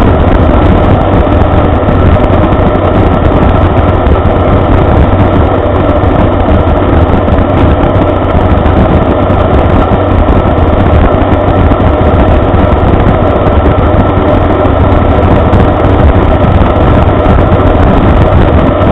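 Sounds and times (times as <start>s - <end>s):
two-stroke engine and propeller running: 0.0s - 18.9s.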